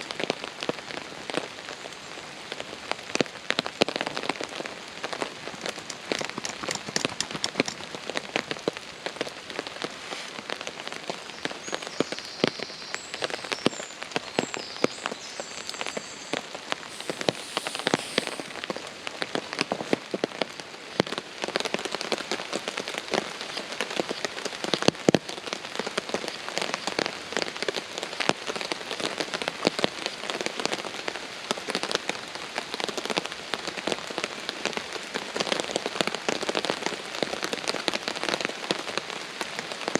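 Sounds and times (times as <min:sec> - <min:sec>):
heavy rain on a tarp: 0:00.0 - 0:39.9.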